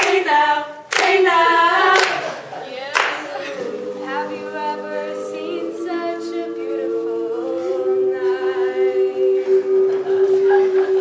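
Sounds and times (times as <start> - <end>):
women singing a cappella: 0.0 - 11.0.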